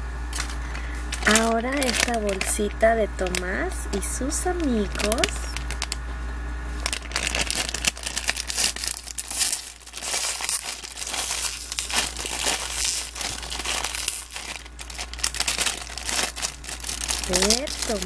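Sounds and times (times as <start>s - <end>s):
plastic foil bag crinkling: 0.3s - 6.0s, 6.6s - 18.0s.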